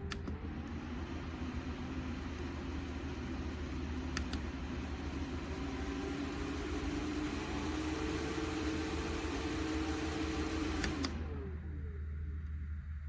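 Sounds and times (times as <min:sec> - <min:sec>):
desk fan running: 0:00.0 - 0:13.0.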